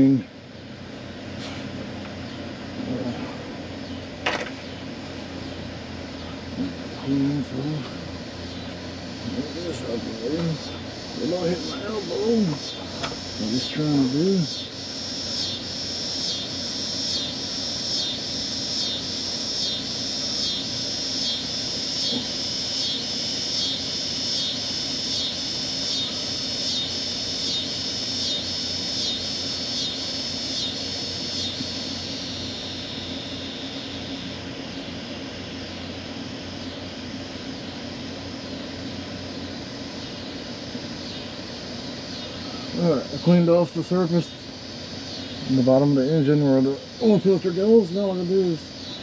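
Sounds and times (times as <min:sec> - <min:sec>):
insects pulsing chorus: 0:00.0 - 0:49.0
steady high hiss: 0:00.0 - 0:49.0.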